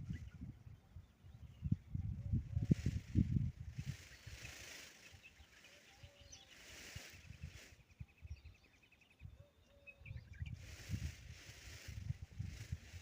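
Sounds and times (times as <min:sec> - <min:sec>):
low rumbling wind gusts: 0:00.0 - 0:13.0
small birds chirping: 0:00.0 - 0:13.0.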